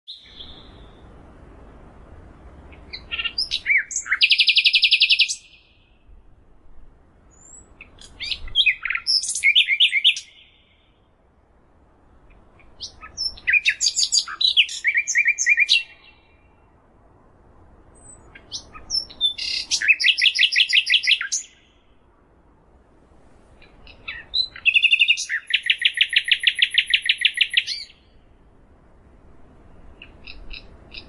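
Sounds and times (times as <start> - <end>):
songbird singing: 0.0 - 31.0.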